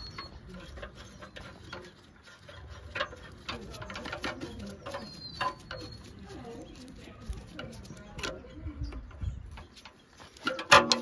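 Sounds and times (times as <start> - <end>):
bird calling: 0.0 - 10.4.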